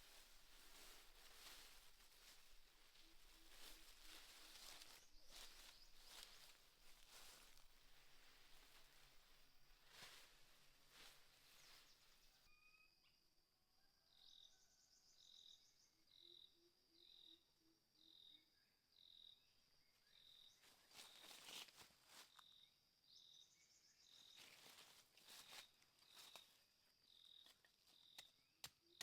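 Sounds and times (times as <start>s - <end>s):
insects and frogs droning: 0.0s - 29.0s.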